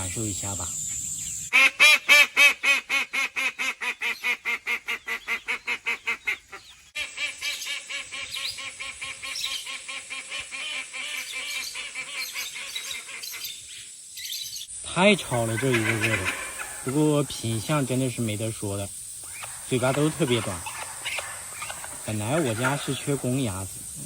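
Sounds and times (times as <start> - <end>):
ducks quacking: 1.5 - 13.6, 15.1 - 18.4, 19.2 - 24.0.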